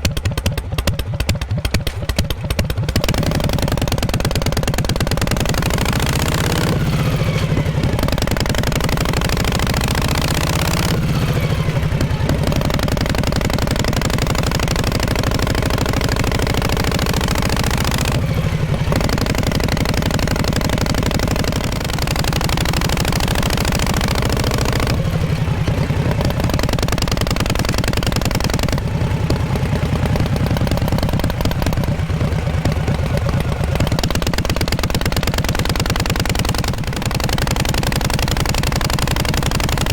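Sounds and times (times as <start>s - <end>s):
motorcycle exhaust revving: 0.0s - 39.9s.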